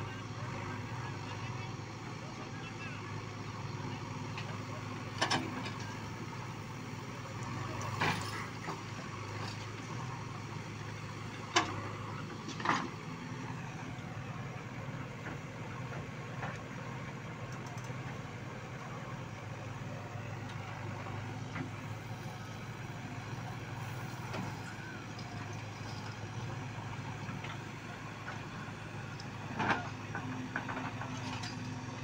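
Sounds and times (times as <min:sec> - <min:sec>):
diesel engines running: 0:00.0 - 0:32.0.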